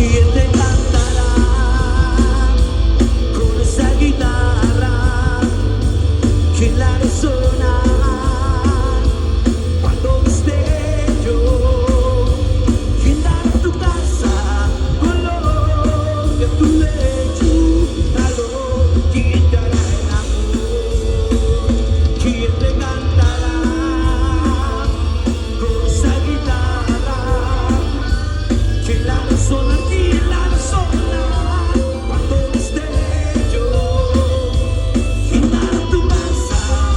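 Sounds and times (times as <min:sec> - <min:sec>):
drums: 0:00.0 - 0:36.9
live rock band playing: 0:00.0 - 0:36.9.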